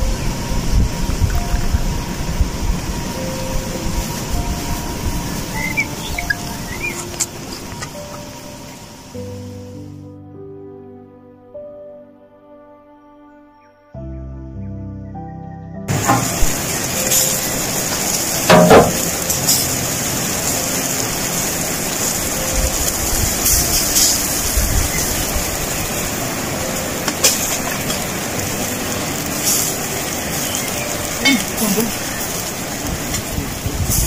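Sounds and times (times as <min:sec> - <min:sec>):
coals crackling: 0:00.0 - 0:10.0, 0:15.9 - 0:34.0
meat sizzling over coals: 0:00.0 - 0:10.0, 0:15.9 - 0:34.0
music: 0:00.0 - 0:34.0.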